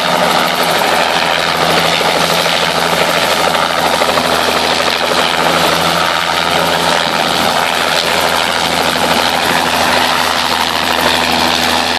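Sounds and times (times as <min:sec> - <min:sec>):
helicopter hovering drone: 0:00.0 - 0:11.9.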